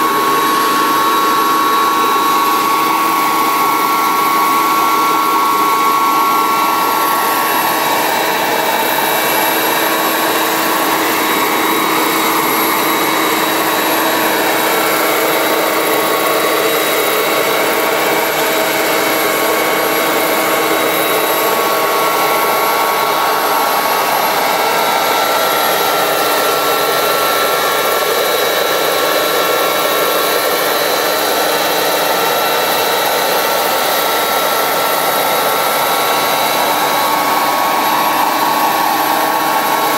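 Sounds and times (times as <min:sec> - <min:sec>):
helicopter rotor noise: 0:00.0 - 0:39.9
model gas turbine whine: 0:00.0 - 0:39.9.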